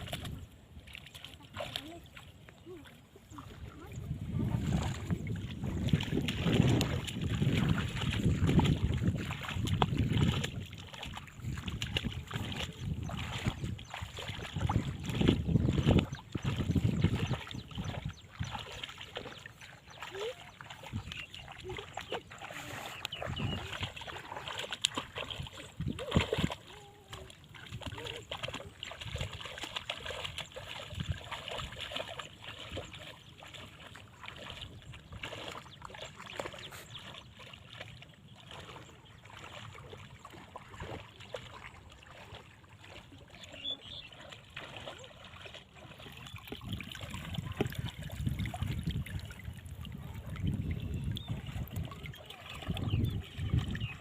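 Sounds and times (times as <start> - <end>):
water sloshing and splashing: 0.0 - 54.0.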